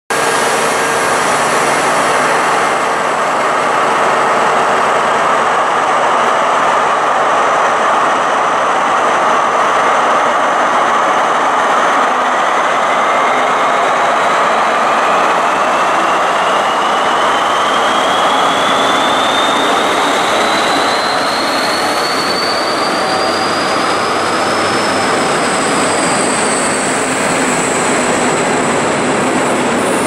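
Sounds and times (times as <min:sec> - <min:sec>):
diesel locomotive engine running: 0:00.1 - 0:30.0.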